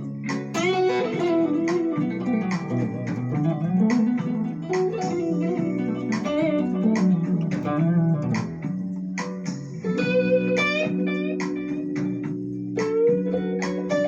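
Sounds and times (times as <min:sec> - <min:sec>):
bass line: 0:00.0 - 0:13.3
plucked guitar notes: 0:00.0 - 0:14.0
steady beat: 0:00.0 - 0:14.0.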